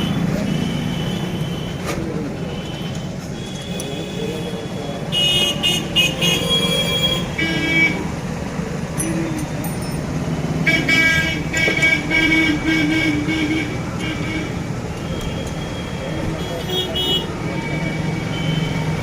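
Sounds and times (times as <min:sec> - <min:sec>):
vehicle horns honking: 0:00.0 - 0:08.1, 0:10.6 - 0:19.0
road traffic: 0:00.0 - 0:19.0.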